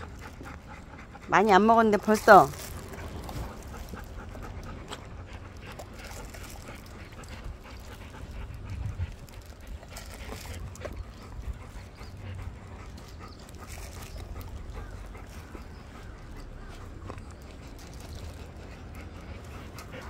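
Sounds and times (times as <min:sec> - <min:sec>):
dogs panting: 0:00.0 - 0:20.0.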